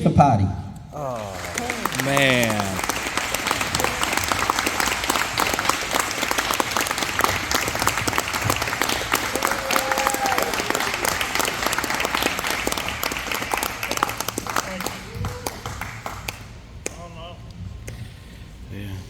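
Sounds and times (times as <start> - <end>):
crowd applauding: 1.0 - 16.7.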